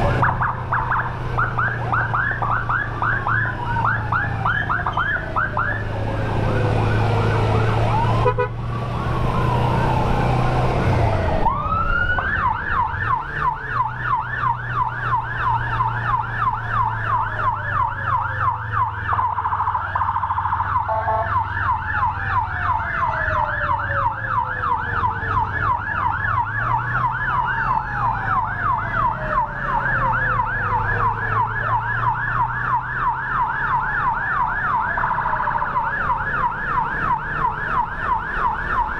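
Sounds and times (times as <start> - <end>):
siren long falling tones: 0.0 - 38.9
yelp siren: 0.0 - 38.9.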